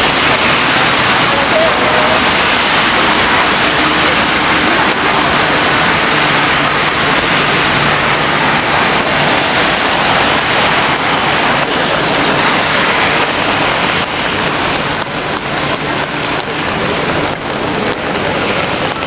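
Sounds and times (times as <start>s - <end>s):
steady rain hiss: 0.0s - 19.0s
taps of raindrops: 0.0s - 19.0s.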